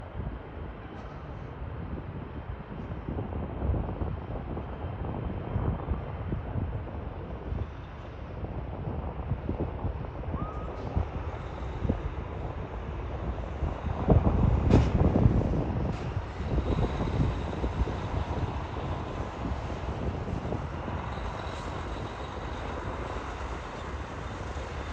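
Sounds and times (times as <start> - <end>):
airplane landing rumble: 0.0 - 24.9
wind buffeting microphone: 0.0 - 24.9.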